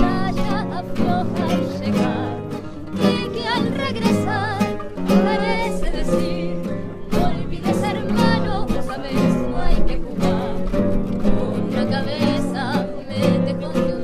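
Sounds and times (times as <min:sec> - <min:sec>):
acoustic guitars playing tango: 0:00.0 - 0:14.0.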